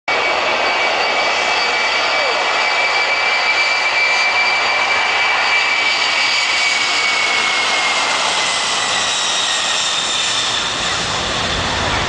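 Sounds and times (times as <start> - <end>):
aircraft engine rushing hiss: 0.1 - 12.0
high engine whine: 0.1 - 12.0.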